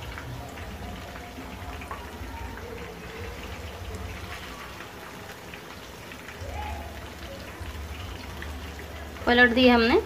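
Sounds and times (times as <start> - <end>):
chicken deep-frying in hot oil: 0.0 - 10.0
crackling bubbling oil: 0.0 - 10.0.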